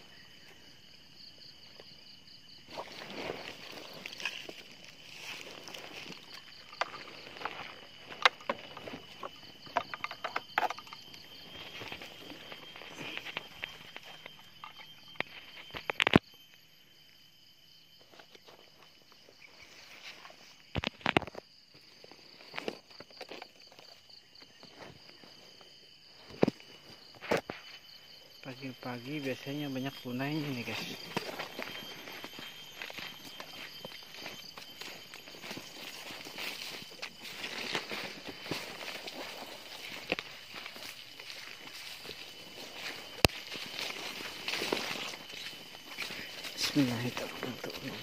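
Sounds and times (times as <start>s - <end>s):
footsteps crunching through undergrowth: 0.0s - 16.2s, 18.0s - 48.0s
forest insects droning: 0.0s - 48.0s.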